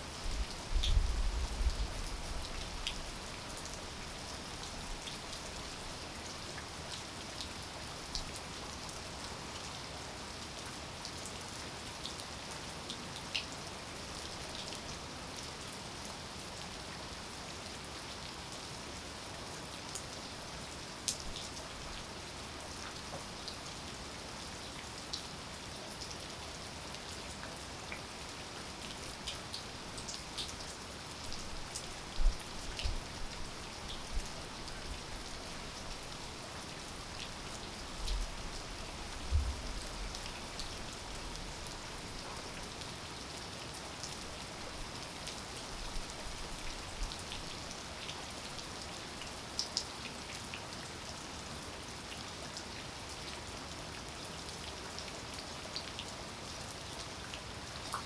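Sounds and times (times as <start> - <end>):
steady rain falling: 0.0 - 58.0
raindrops ticking on surfaces: 0.1 - 15.0, 20.6 - 56.2, 57.0 - 58.0.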